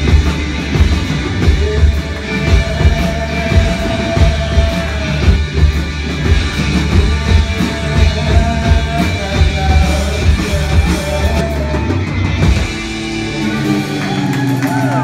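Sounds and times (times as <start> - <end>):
drum kit: 0.0 - 15.0
electric guitars: 0.0 - 15.0.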